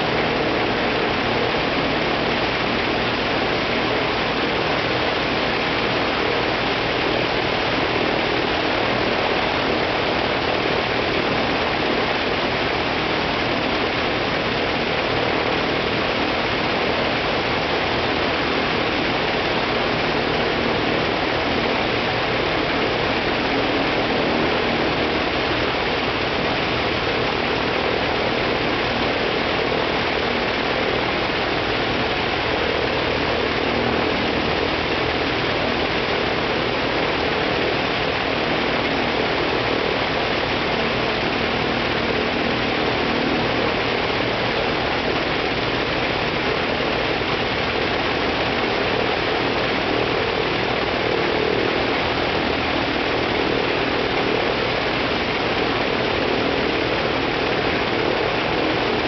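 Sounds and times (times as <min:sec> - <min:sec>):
radial aircraft engine running: 0:00.0 - 0:59.0.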